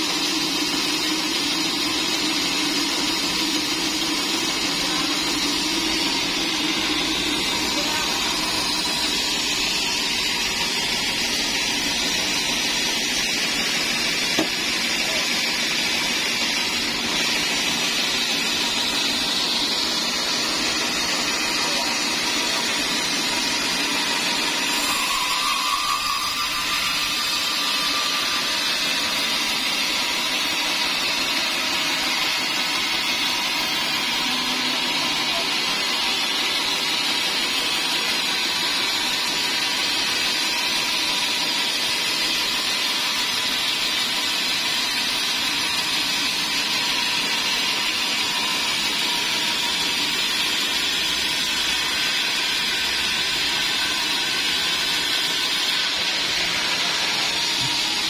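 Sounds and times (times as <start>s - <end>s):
band saw cutting through log: 0.0s - 58.0s.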